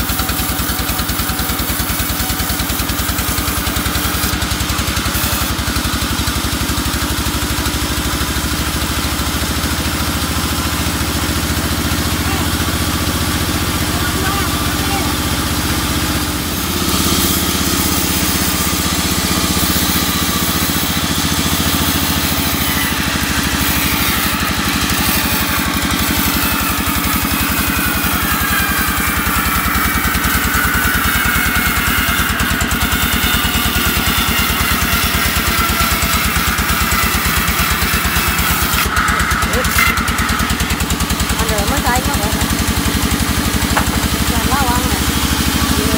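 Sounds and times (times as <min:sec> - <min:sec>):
engine throbbing: 0:00.0 - 0:45.9
saw blade whining in wood: 0:00.0 - 0:45.9.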